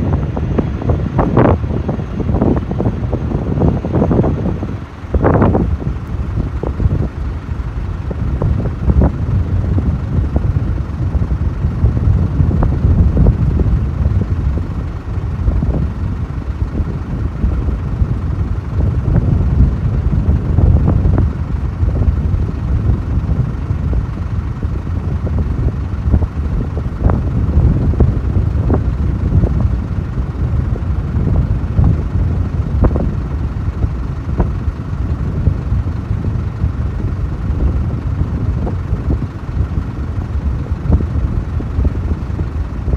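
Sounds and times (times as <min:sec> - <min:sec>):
wind buffeting the microphone: 0:00.0 - 0:42.9.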